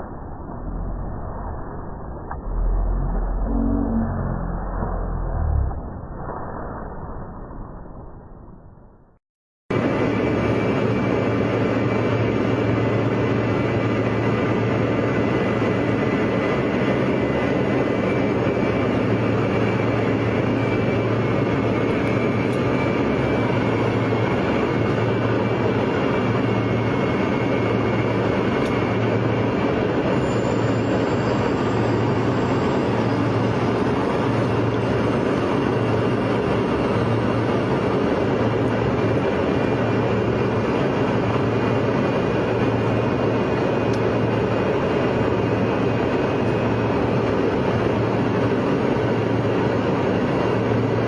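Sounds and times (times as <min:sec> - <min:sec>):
low hum: 0:00.0 - 0:51.0
vehicle drone: 0:00.0 - 0:51.0.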